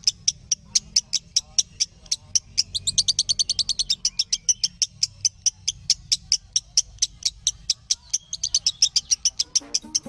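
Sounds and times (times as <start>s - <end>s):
lovebird chirping: 0.0s - 10.0s.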